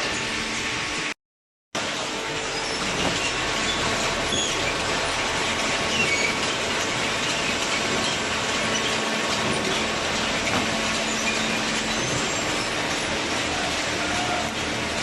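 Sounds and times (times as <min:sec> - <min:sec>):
machinery clatter: 0:01.8 - 0:15.0
high machine squeaks: 0:02.2 - 0:14.7.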